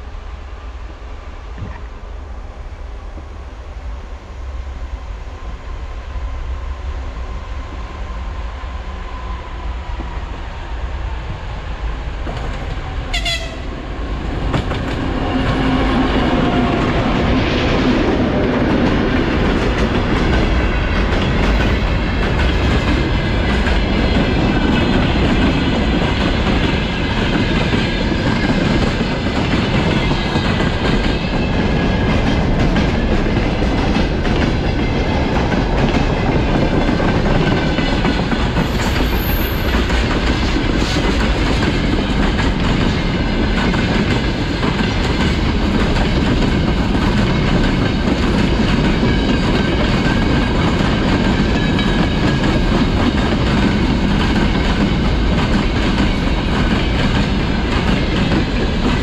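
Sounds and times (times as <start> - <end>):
diesel locomotive engines: 0.0 - 59.0.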